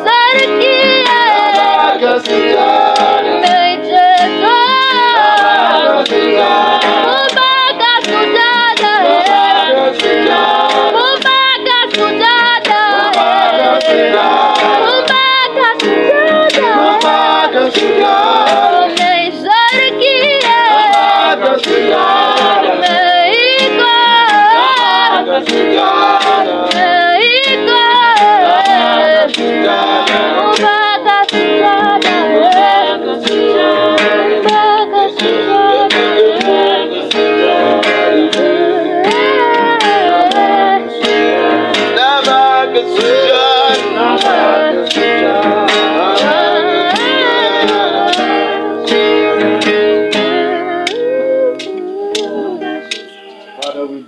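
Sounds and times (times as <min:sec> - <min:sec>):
gospel singing: 0:00.0 - 0:54.0
guitar: 0:00.0 - 0:54.0.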